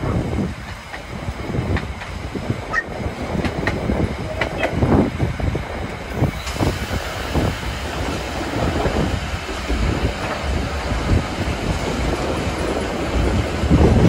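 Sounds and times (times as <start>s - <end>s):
steam train rumbling and rattling: 0.0s - 14.0s.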